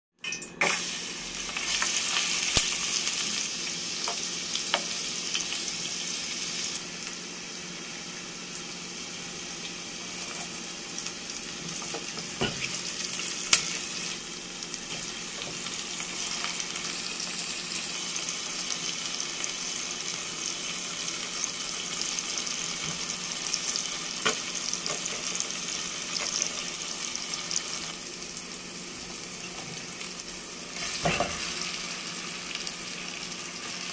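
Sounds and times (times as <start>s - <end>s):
vegetables sizzling in hot oil: 0.2s - 33.9s.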